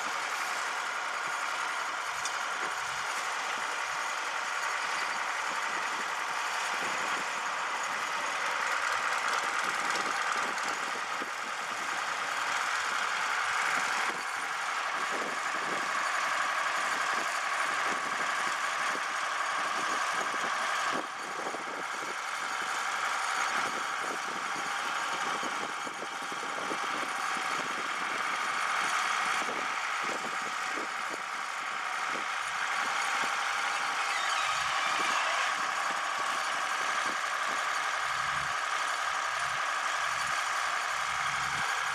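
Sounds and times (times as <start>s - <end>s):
tractor diesel engine clattering: 0.0s - 41.9s.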